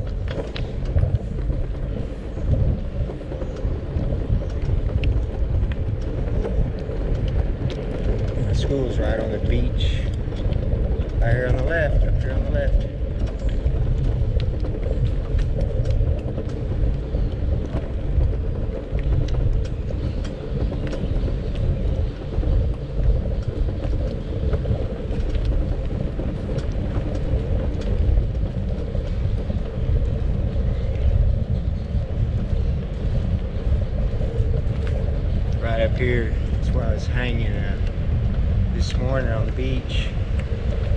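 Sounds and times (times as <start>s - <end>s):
bicycle rumbling on paved street: 0.0s - 40.9s.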